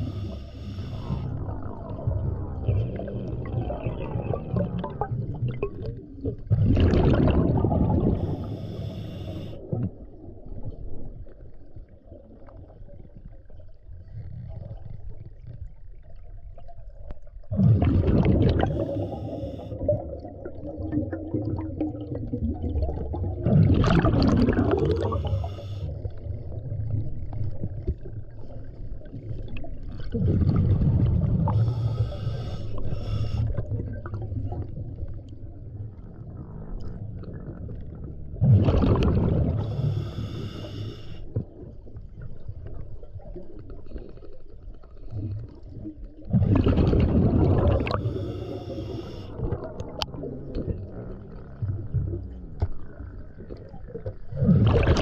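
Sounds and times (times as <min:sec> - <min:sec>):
low underwater rumble: 0:00.0 - 0:55.0
exhaled bubbles rushing: 0:01.0 - 0:08.6, 0:16.6 - 0:40.0, 0:41.3 - 0:55.0.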